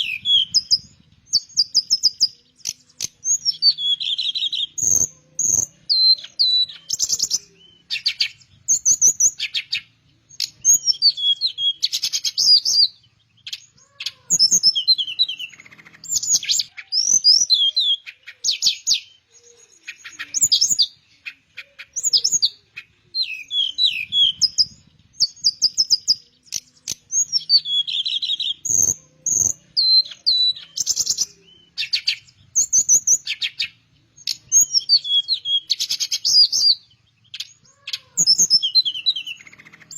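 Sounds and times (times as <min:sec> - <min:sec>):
small bird singing: 0:00.0 - 0:39.9.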